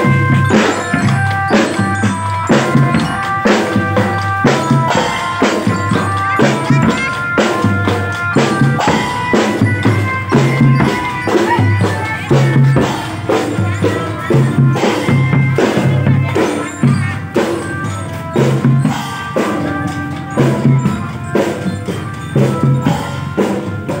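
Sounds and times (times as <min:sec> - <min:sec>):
bell lyre melody: 0:00.0 - 0:24.0
marching drums steady beat: 0:00.0 - 0:24.0.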